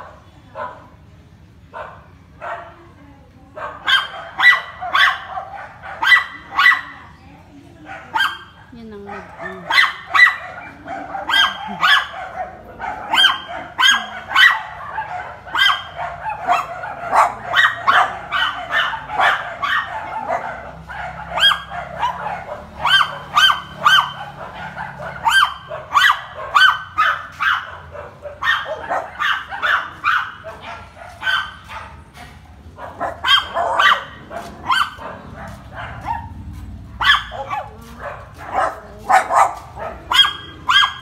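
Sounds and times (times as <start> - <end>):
dog barking: 0.0 - 1.0, 1.7 - 7.2, 7.8 - 41.0.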